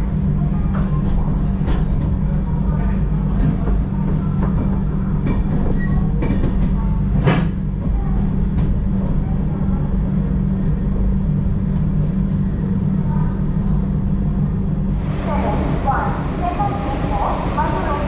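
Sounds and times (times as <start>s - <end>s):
train coach hum and rumble: 0.0s - 18.0s.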